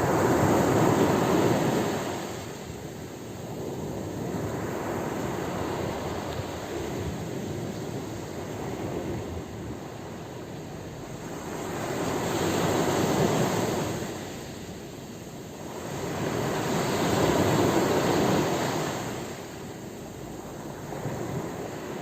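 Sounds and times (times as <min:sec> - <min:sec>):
sea waves breaking ashore: 0:00.0 - 0:22.0.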